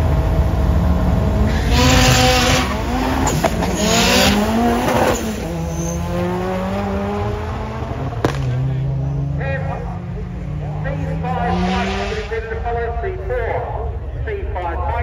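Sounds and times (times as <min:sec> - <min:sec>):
drag cars accelerating: 0:00.0 - 0:14.6.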